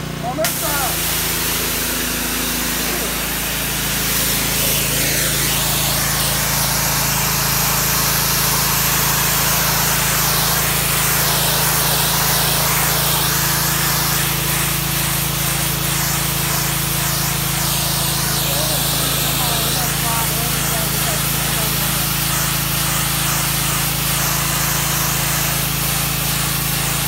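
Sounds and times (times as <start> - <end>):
pressure washer engine humming: 0.0 - 27.0
water jet hissing on concrete: 0.2 - 27.0.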